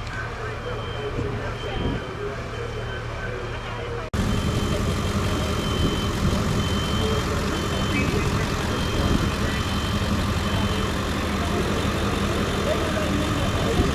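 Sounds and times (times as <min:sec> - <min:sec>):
vehicle engine idling: 0:00.0 - 0:13.9.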